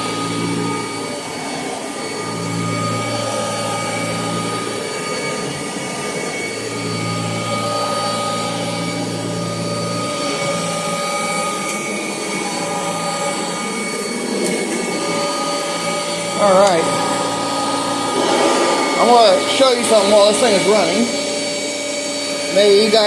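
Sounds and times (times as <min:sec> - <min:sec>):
vacuum cleaner whining: 0:00.0 - 0:23.0.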